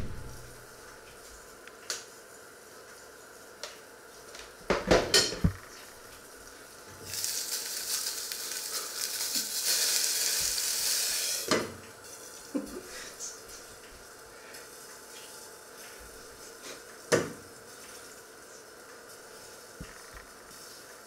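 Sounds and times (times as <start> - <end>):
hot pan sizzling: 0.0 - 21.0.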